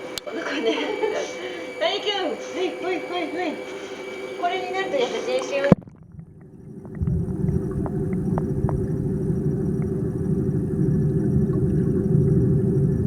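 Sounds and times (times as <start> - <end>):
wave generator churning rumble: 0.0 - 13.0.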